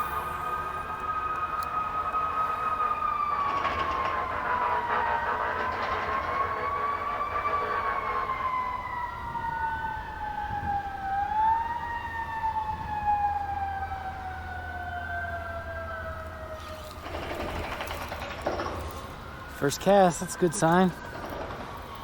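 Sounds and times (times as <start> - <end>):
second siren tone: 0.0 - 17.0, 18.8 - 22.0
siren wailing: 0.0 - 22.0.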